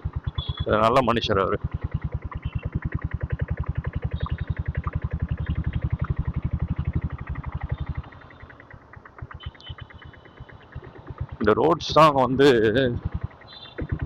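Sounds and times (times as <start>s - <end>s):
diesel motorcycle engine: 0.0s - 14.0s.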